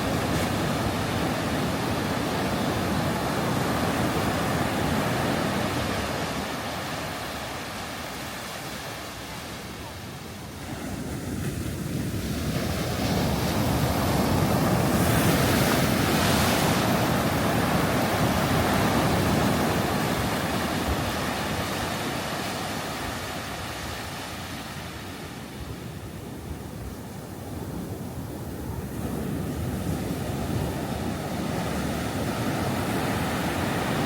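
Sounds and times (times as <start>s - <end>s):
ocean waves breaking on beach: 0.0s - 34.0s.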